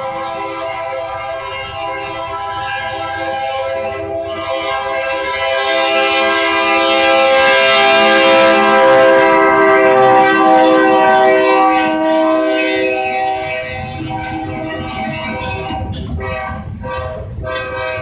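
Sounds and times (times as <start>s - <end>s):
locomotive air horn chord: 0.0s - 18.0s
train rumble: 0.0s - 18.0s.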